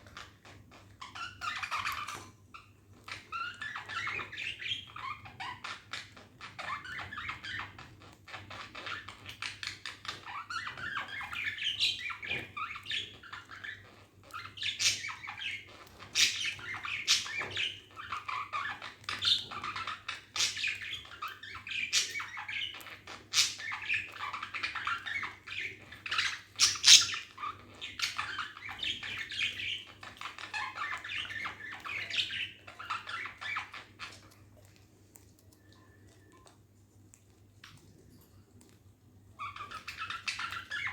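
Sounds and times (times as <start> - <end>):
budgerigars chattering and chirping: 0.0 - 2.3, 3.0 - 34.3, 39.4 - 40.9.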